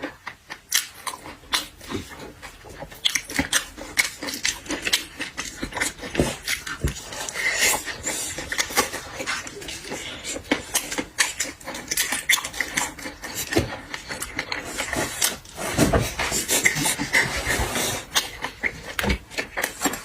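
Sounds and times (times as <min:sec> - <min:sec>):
person chewing and slurping: 0:00.0 - 0:20.0.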